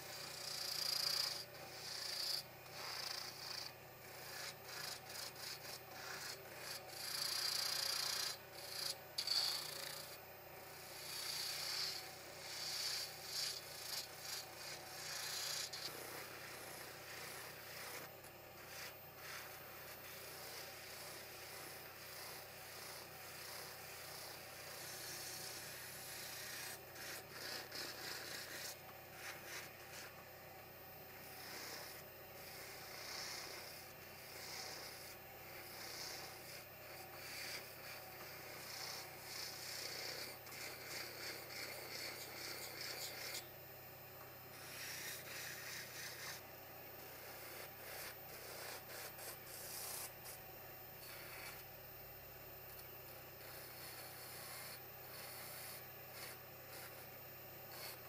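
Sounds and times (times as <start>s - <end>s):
rotary tool motor hum: 0.0s - 43.6s, 44.2s - 58.0s.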